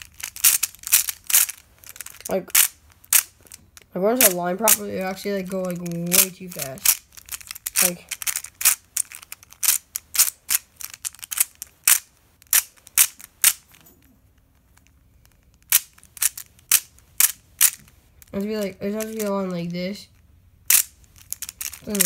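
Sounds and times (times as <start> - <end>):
plastic puzzle clicking: 0.0 - 13.8, 14.6 - 19.8, 20.7 - 22.0.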